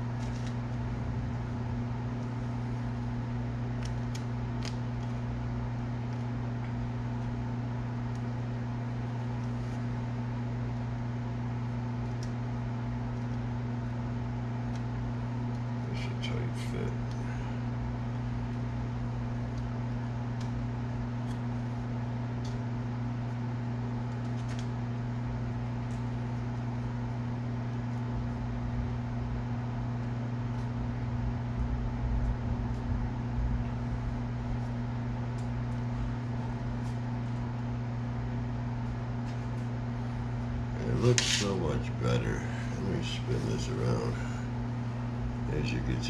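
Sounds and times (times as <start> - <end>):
electric motor hum: 0.0 - 46.0.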